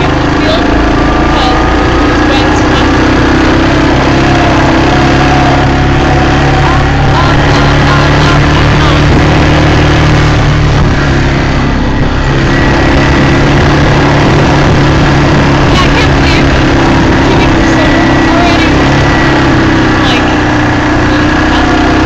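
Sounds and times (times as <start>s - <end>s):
motor engine running: 0.0s - 22.0s
wind buffeting microphone: 0.0s - 22.0s.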